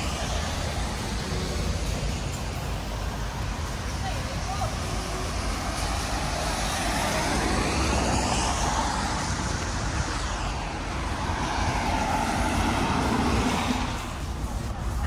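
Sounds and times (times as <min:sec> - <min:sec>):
passing car engines rumbling: 0:00.0 - 0:15.0
tyres hissing on wet road: 0:00.0 - 0:15.0.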